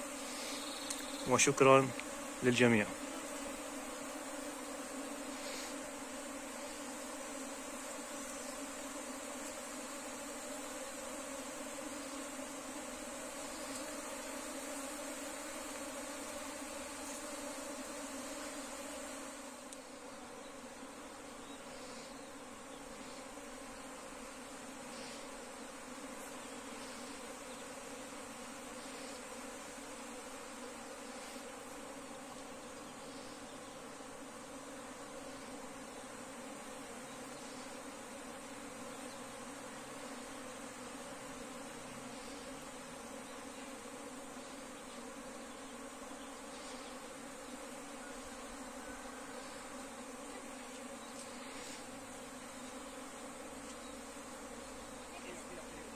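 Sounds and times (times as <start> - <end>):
bee swarm buzzing: 0.0 - 55.9.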